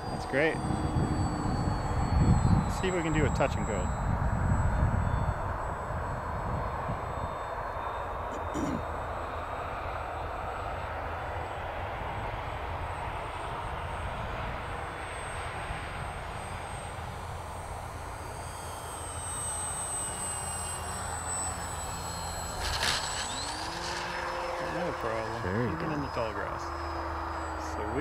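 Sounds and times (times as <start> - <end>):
model airplane motor whining: 0.0 - 28.0.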